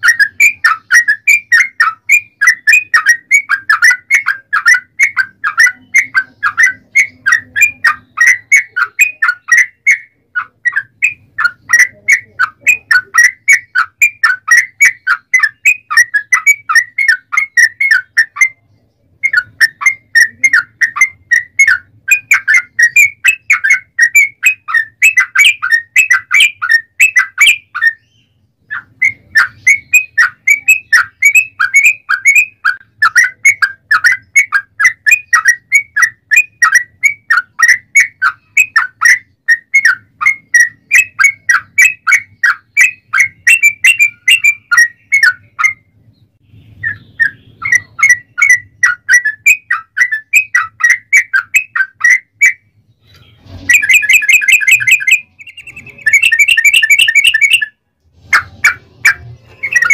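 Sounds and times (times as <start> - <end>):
bird singing whistled notes: 0.0 - 59.9.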